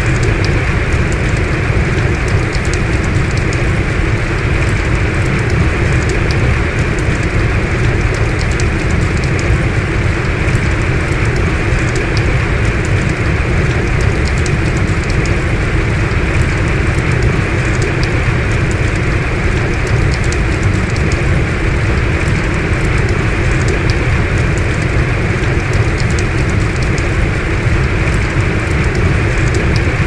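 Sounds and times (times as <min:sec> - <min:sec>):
heavy rain hissing: 0:00.0 - 0:30.0
raindrop ticks: 0:00.0 - 0:30.0.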